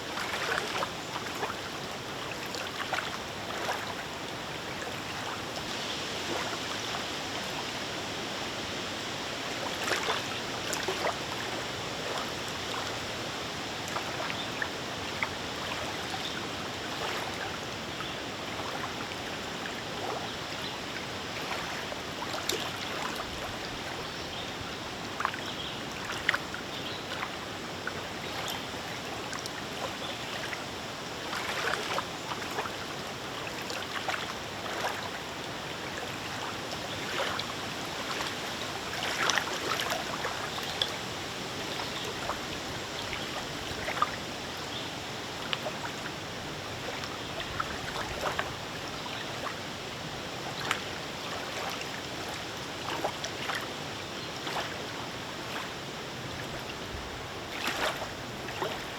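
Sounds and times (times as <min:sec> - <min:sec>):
lake waves lapping: 0:00.0 - 0:08.5, 0:09.2 - 0:58.9.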